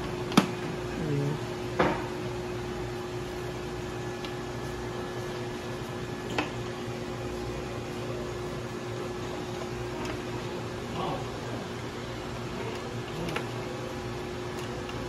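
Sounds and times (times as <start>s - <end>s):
equipment fan hum: 0.0s - 15.0s.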